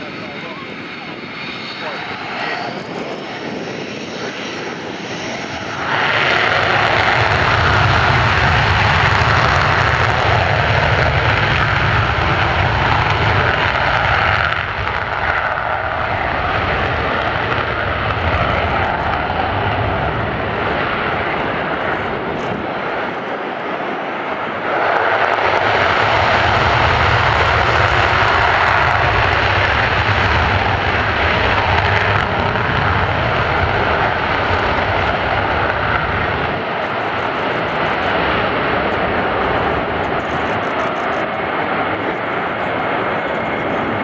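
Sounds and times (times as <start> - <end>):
jet engines running: 0.0 - 44.0
jet taking off with afterburner: 0.0 - 44.0.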